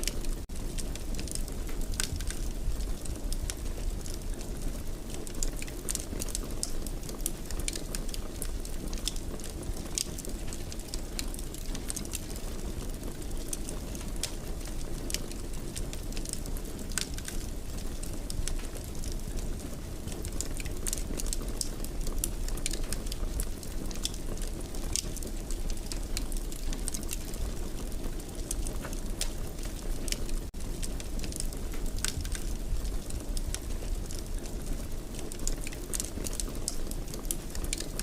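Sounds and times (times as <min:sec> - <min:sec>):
fire popping and snapping: 0:00.0 - 0:38.0
low rumble of flames: 0:00.0 - 0:38.0.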